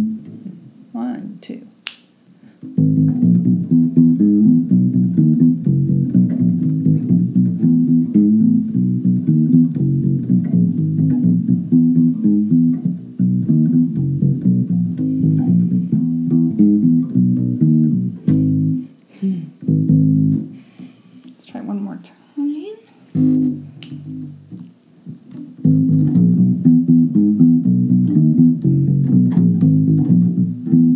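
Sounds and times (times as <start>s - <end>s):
electric bass guitar plucked notes: 0.0s - 0.3s, 2.6s - 18.9s, 19.6s - 20.6s, 23.1s - 30.9s.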